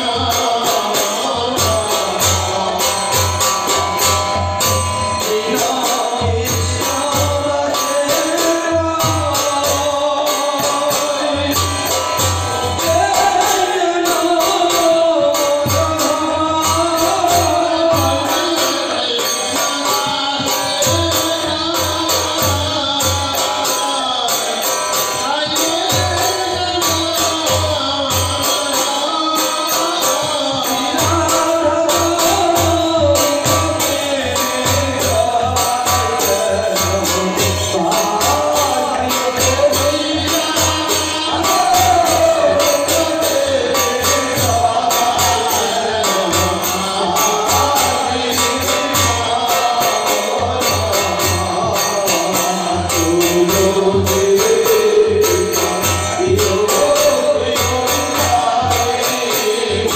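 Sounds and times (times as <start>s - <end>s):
jingling metal percussion: 0.0s - 59.9s
voices singing devotional chant: 0.0s - 59.9s.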